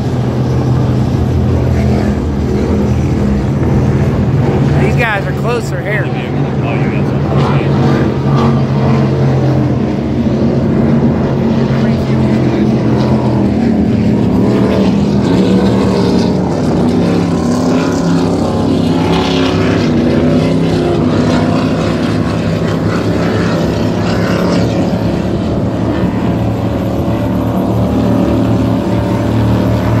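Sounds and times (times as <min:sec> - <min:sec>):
powerboat engines passing: 0:00.0 - 0:30.0.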